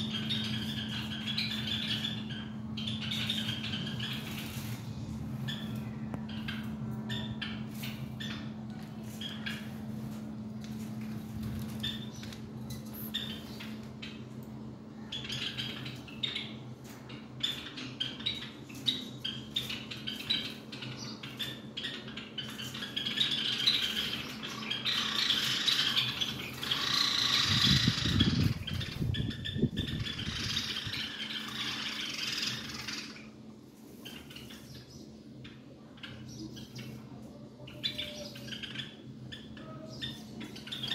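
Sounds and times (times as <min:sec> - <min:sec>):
small birds chirping: 0:00.0 - 0:40.9
steady low hum: 0:00.0 - 0:40.9.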